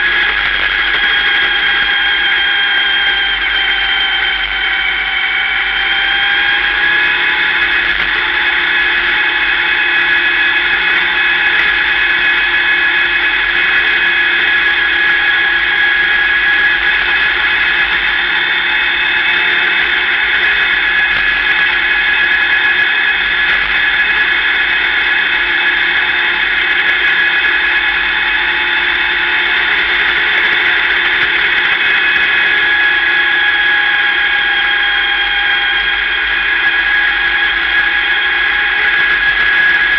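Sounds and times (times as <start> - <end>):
race car drivetrain whine: 0.0 - 39.9.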